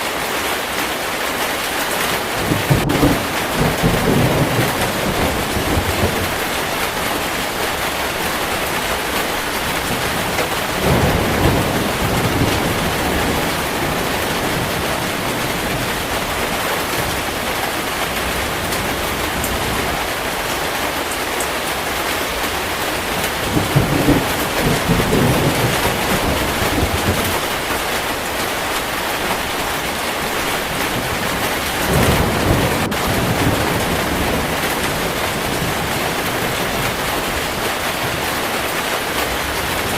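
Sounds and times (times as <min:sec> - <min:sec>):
heavy rain falling: 0:00.0 - 0:39.9
thunder rumbling: 0:02.2 - 0:39.9.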